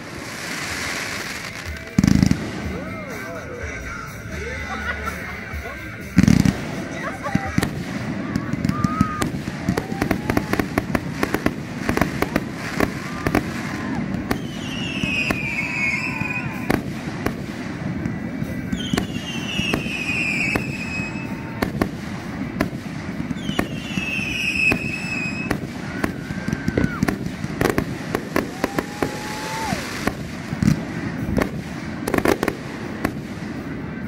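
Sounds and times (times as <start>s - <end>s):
fireworks shots and crackling bangs: 0.0s - 3.8s, 6.0s - 34.0s
fireworks whistles: 0.0s - 4.1s, 6.0s - 34.0s.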